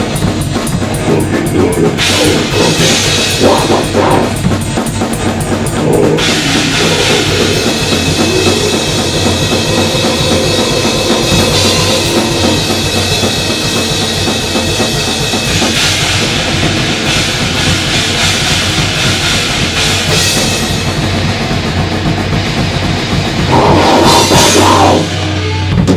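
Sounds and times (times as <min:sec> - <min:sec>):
distorted heavy metal guitars: 0:00.0 - 0:25.9
drum kit hammering fast: 0:00.0 - 0:25.9.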